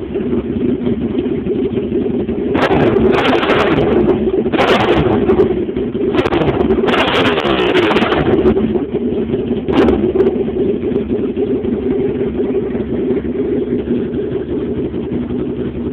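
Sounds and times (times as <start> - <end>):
motorcycle engine revving and idling: 0.0 - 15.9.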